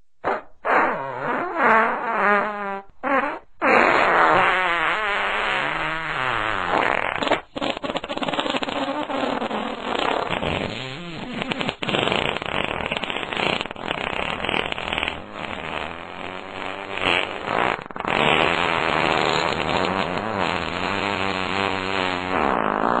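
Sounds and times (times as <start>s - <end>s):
long buzzing fart: 0.2s - 23.0s
sputtering farts: 0.2s - 23.0s.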